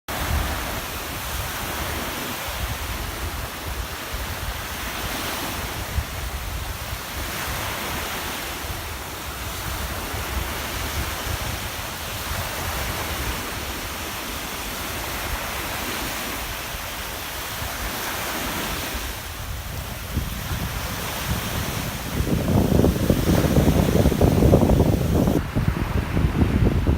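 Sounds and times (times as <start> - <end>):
waves breaking on beach: 0.1 - 26.9
wind buffeting microphone: 0.1 - 26.9.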